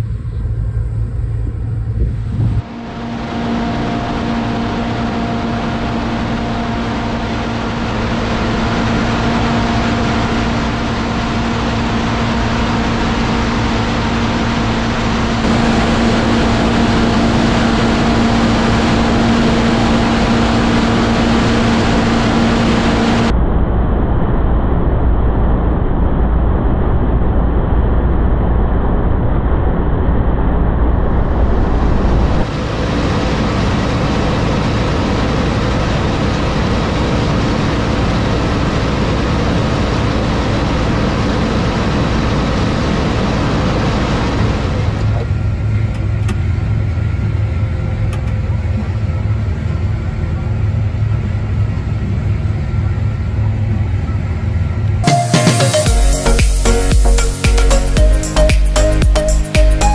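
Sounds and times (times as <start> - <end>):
combine harvester drone: 0.0 - 23.9, 28.9 - 59.9
heavy low rumble: 0.0 - 59.9.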